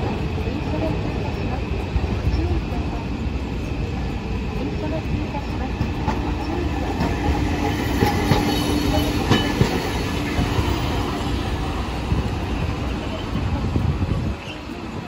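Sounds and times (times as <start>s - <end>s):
streetcar rumbling past: 0.0s - 15.0s
wheels clacking on rails: 0.0s - 15.0s.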